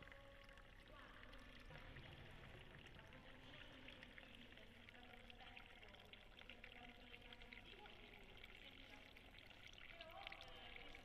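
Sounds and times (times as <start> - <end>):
faint trickling water: 0.0 - 11.0.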